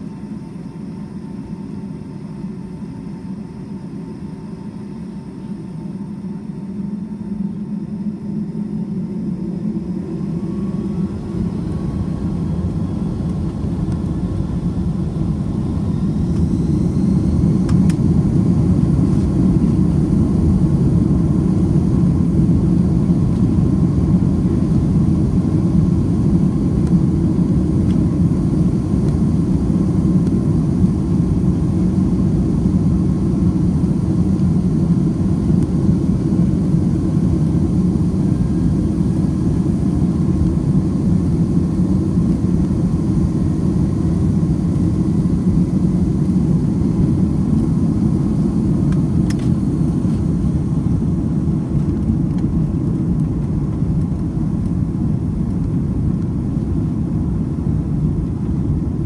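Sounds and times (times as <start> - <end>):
jet engines spooling up: 6.1 - 54.2.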